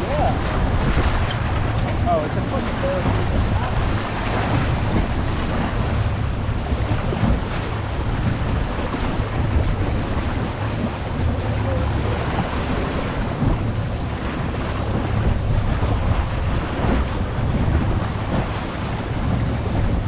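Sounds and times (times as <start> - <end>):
low constant rumble: 0.0 - 20.0
waves washing: 0.0 - 20.0
wind buffeting microphone: 0.0 - 20.0.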